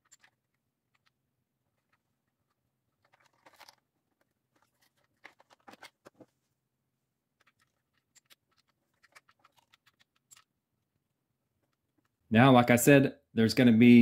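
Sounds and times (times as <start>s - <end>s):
cables rustling: 0.0s - 12.3s.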